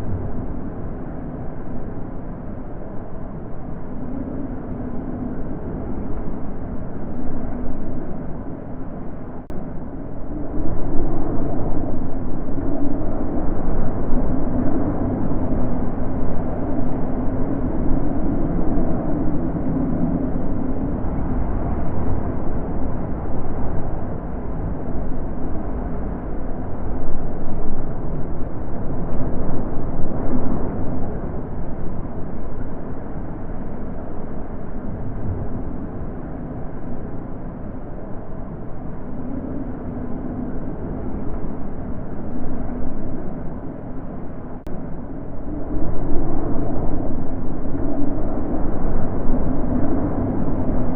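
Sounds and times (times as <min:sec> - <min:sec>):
wind blowing in gusts: 0:00.0 - 0:50.9.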